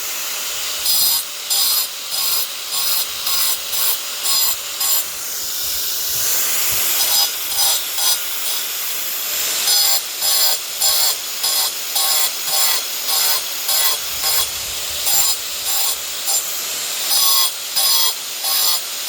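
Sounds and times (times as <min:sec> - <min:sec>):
hand tool scraping: 0:00.0 - 0:19.0.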